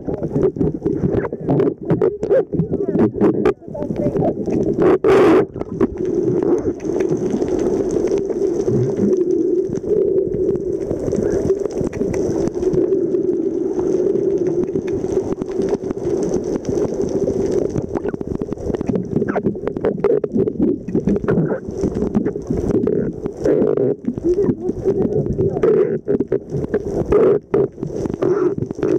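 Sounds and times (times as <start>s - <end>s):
small clicks and crackles: 0.0s - 28.9s.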